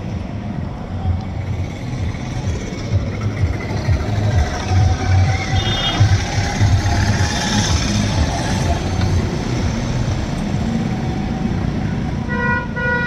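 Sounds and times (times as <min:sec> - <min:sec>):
vehicle engine uneven rumble: 0:00.0 - 0:12.2.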